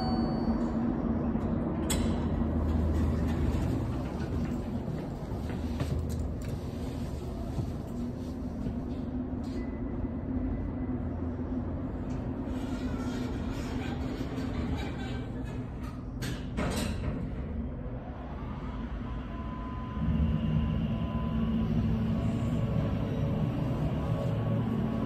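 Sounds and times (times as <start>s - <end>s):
elevator humming and rumbling: 0.0s - 25.0s.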